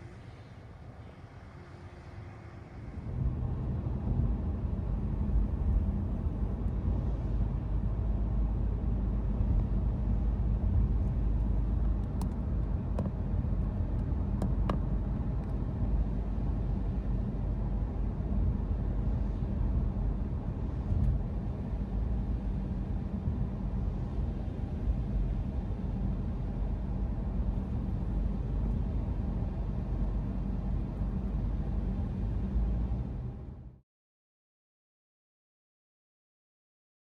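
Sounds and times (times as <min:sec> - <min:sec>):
car driving road and engine noise: 0:00.0 - 0:33.8.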